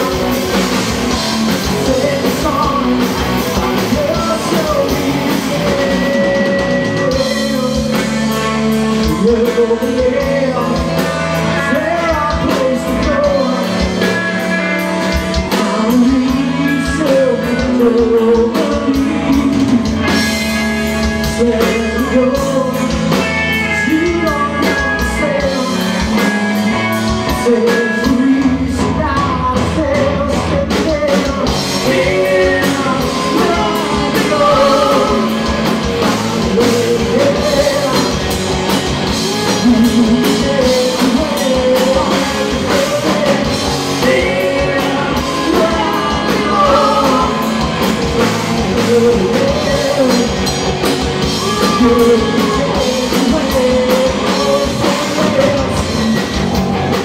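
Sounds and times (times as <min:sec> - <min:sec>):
lead vocalist singing: 0:00.0 - 0:57.0
live rock band playing: 0:00.0 - 0:57.0.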